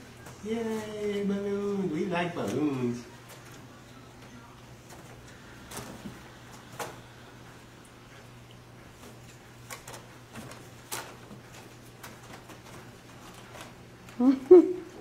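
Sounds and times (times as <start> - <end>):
foil balloons tapping and crinkling: 0.0 - 7.2, 8.6 - 14.3
steady low hum: 0.0 - 15.0.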